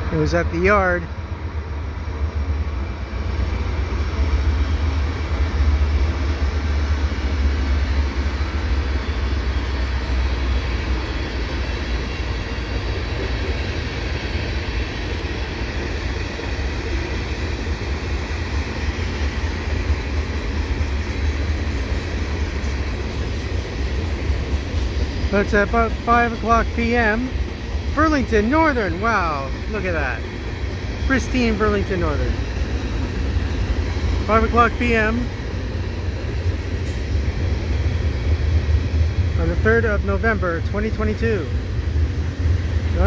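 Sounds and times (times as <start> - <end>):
diesel locomotives rumbling: 0.0 - 43.0
freight cars rolling on rails: 0.0 - 43.0.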